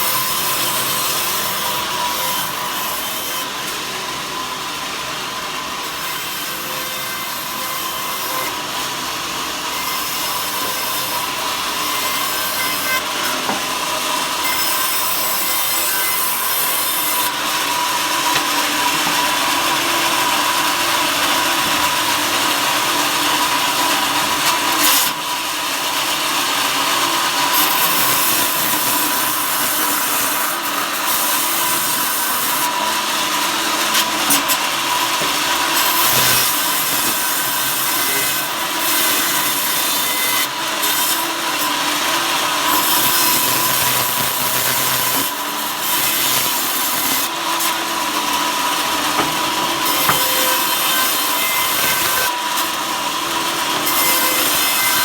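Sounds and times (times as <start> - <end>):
power saw cutting wood: 0.0 - 55.0.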